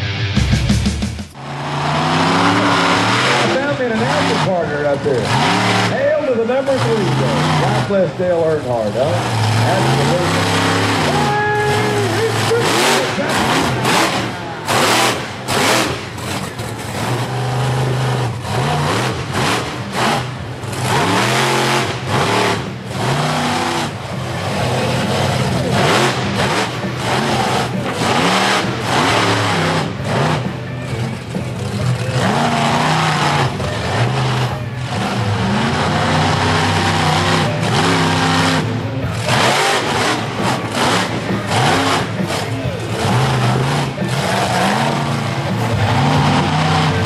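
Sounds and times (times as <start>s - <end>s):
monster truck engine revving: 0.0s - 47.0s.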